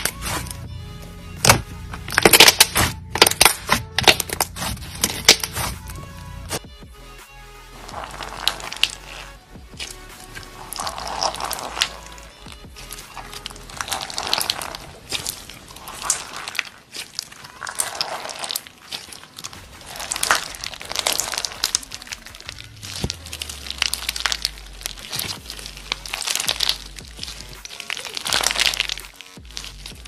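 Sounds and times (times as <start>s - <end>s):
bead slime crackling and crunching: 0.0s - 0.6s, 1.4s - 6.6s, 7.8s - 30.0s.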